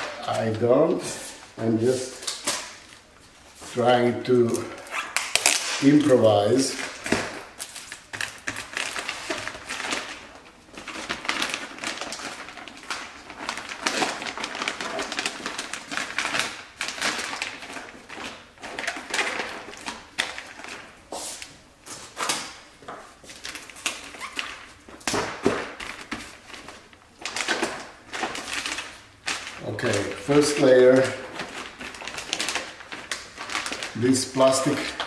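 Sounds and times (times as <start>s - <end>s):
plastic sheeting crinkling: 0.0s - 35.0s.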